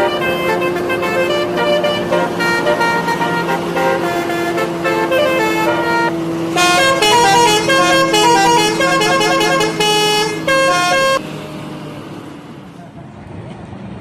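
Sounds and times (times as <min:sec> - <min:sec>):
multi-tone air horn jingle: 0:00.0 - 0:11.2.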